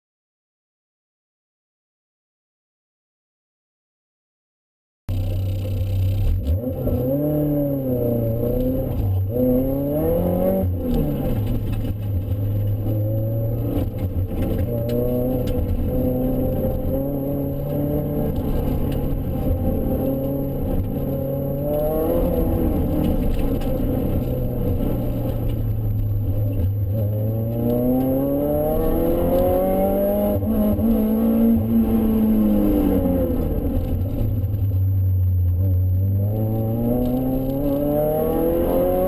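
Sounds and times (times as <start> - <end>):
car engine at speed: 5.1 - 39.0.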